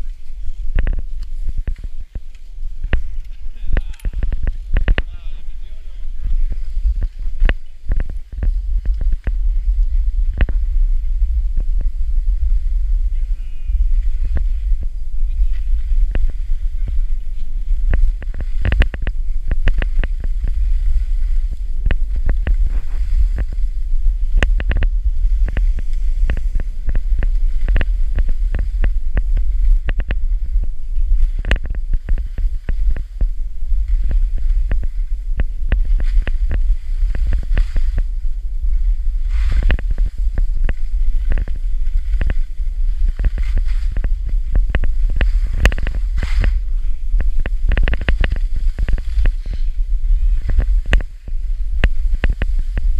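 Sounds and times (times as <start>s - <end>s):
skis scraping over snow: 0.0s - 52.9s
wind rumbling on microphone: 0.0s - 52.9s.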